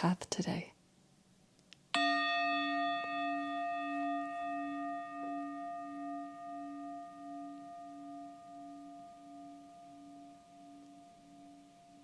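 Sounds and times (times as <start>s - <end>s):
singing bowl ringing: 2.0s - 12.0s.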